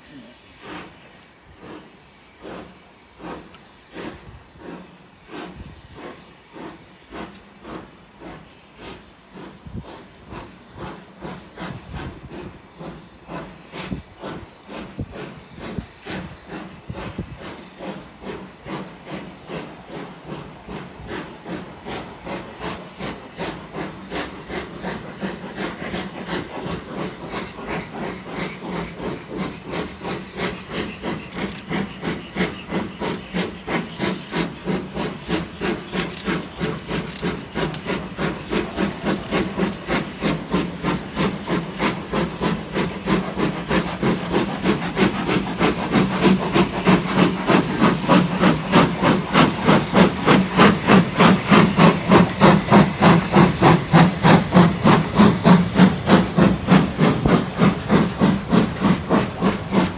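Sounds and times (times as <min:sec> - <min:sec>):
steam locomotive exhaust chuffing: 0:00.0 - 0:59.9.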